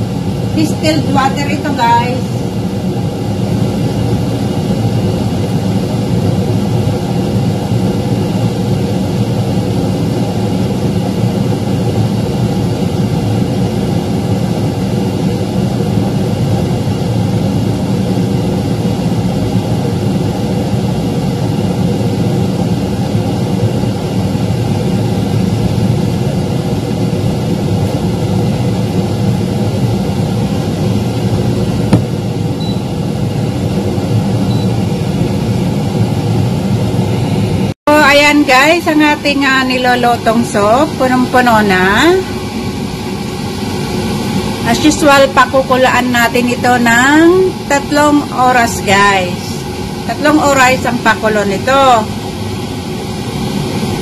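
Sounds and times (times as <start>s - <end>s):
fan motor humming: 0.0s - 54.0s.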